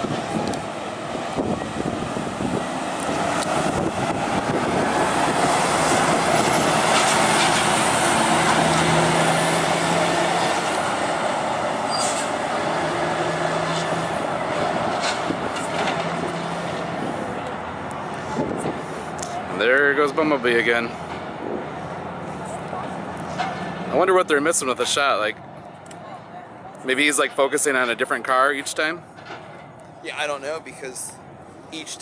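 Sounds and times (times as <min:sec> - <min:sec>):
cars and truck driving past: 0:00.0 - 0:32.0.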